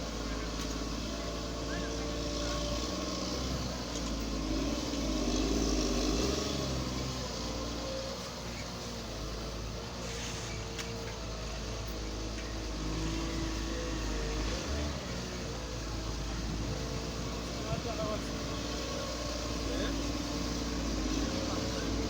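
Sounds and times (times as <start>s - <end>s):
construction machinery engine running: 0.0s - 22.0s.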